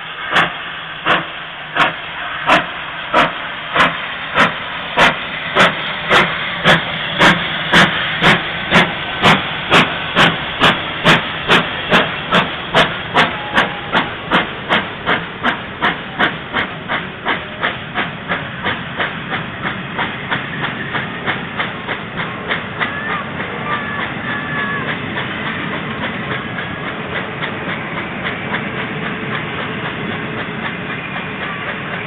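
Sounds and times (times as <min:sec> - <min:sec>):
steam hissing: 0:00.0 - 0:32.0
steam locomotive exhaust chuffs: 0:00.0 - 0:32.0.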